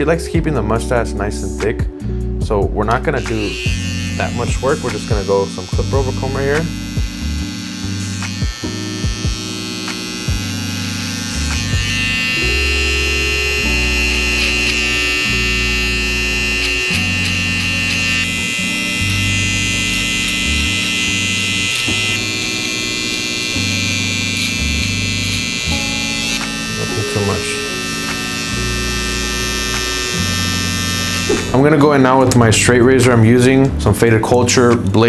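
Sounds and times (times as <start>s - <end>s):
background music with bass chords: 0.0s - 35.0s
electric hair clipper buzzing: 2.9s - 31.9s.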